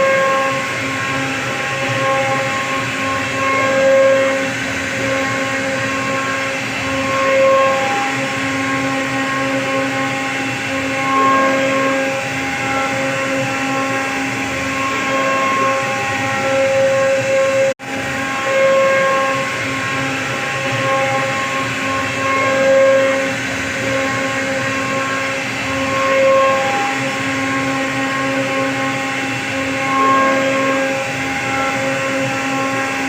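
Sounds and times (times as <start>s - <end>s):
router spindle whine carving wood: 0.0s - 33.0s.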